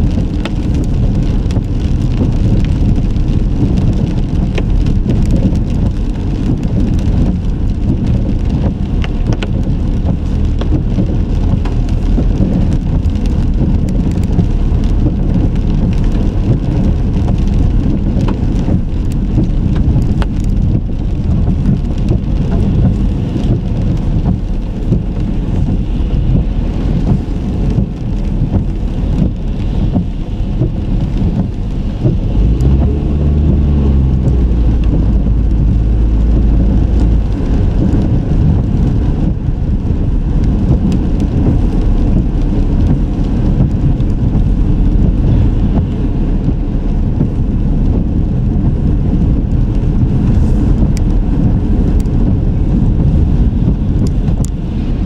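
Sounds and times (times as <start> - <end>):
car tyre and engine rumble: 0.0 - 55.0
deep pitched engine hum: 0.0 - 55.0.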